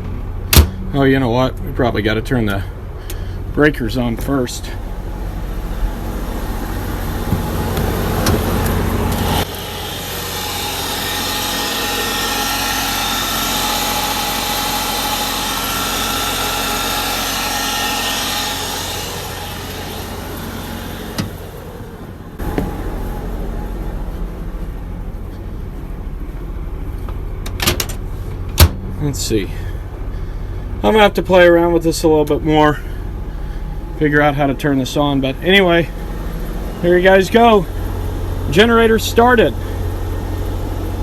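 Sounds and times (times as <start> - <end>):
generator humming: 0.0 - 41.0
hissing whir with steady tones: 1.5 - 41.0.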